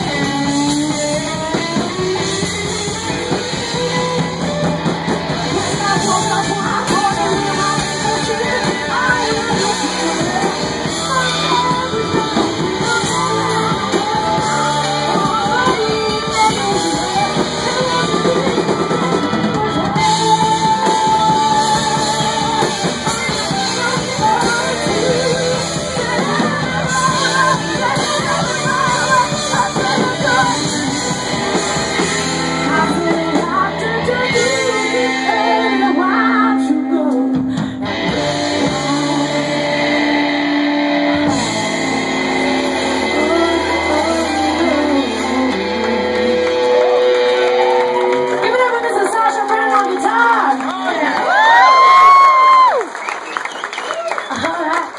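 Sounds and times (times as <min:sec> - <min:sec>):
person singing: 0:00.0 - 0:52.8
live rock band: 0:00.0 - 0:54.9.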